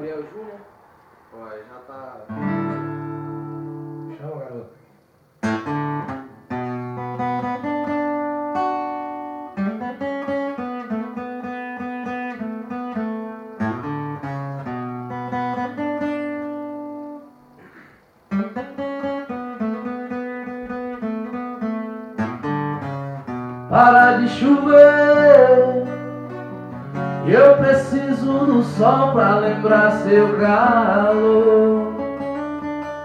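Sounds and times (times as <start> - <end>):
acoustic guitar playing: 2.2 - 33.0.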